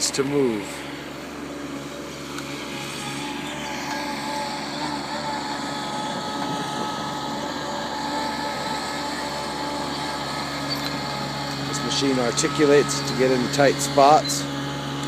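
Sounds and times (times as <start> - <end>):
loader engine running: 0.0 - 15.0
steady whine: 0.0 - 15.0.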